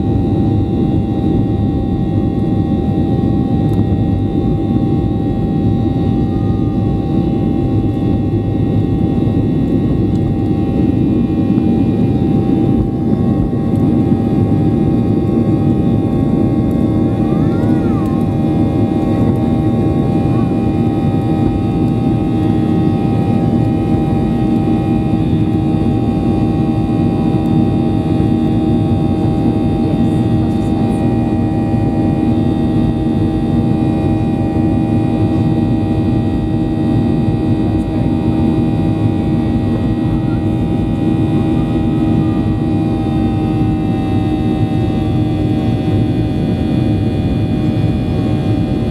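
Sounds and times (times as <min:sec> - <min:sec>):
jet engines heard from cabin: 0:00.0 - 0:48.9.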